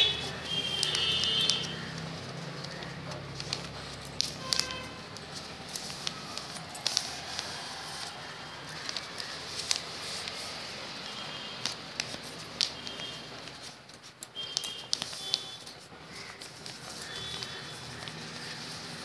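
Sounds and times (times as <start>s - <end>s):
paper folding and crackling: 0.0s - 19.0s.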